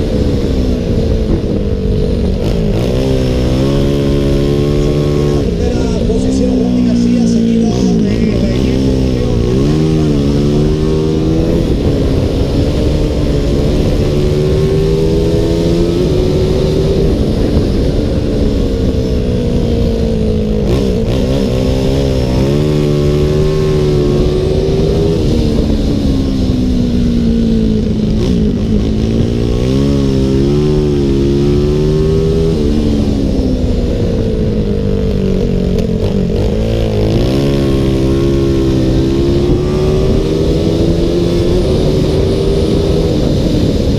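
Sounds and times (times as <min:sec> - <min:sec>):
racing motorcycle engine: 0:00.0 - 0:43.9.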